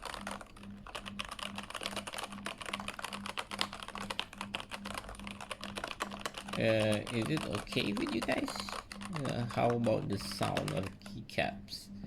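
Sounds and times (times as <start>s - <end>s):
mechanical keyboard typing: 0.0s - 11.2s
faint pulsing low hum: 0.0s - 12.0s.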